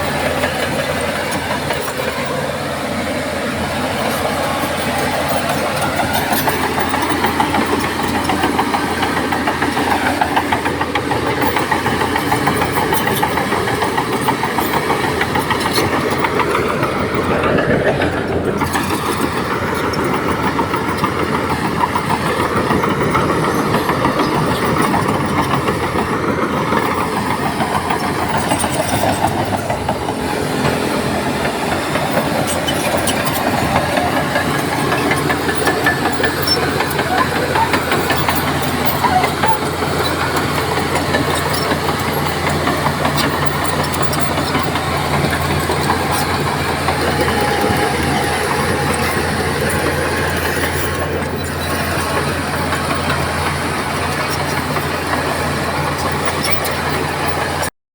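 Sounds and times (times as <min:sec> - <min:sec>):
bulldozer diesel engine droning: 0:00.0 - 0:57.8.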